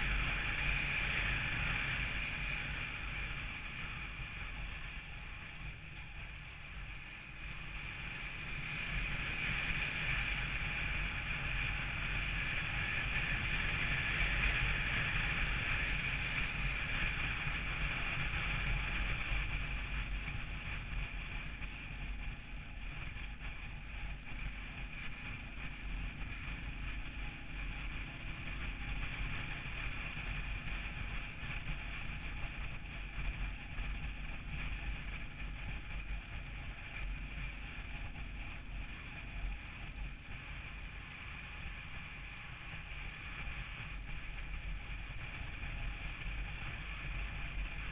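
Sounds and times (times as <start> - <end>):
vehicle engine rumble: 0.0 - 47.9.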